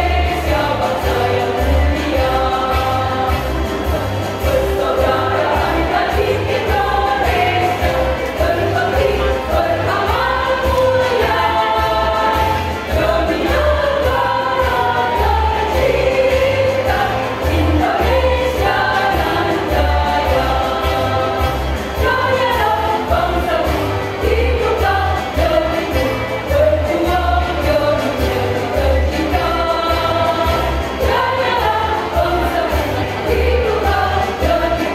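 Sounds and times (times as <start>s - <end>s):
women's choir singing: 0.0s - 34.9s.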